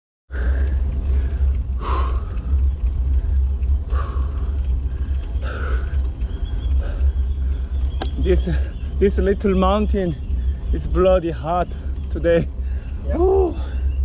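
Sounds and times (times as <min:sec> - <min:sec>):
cyclist breathing heavily: 0:00.3 - 0:09.1, 0:10.2 - 0:10.8, 0:11.7 - 0:14.0
wind rumbling on microphone: 0:00.3 - 0:14.0.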